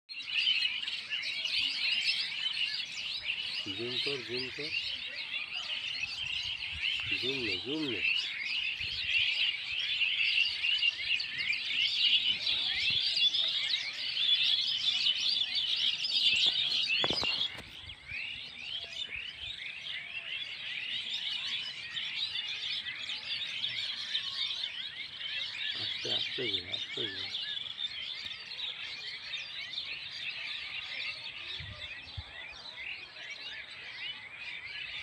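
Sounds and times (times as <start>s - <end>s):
small birds chirping: 0.1s - 35.0s.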